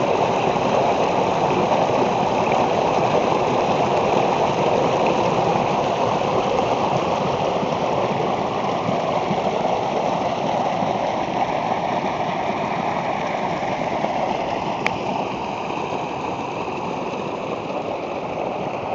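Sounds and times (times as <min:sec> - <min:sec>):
stream water running: 0:00.0 - 0:18.9.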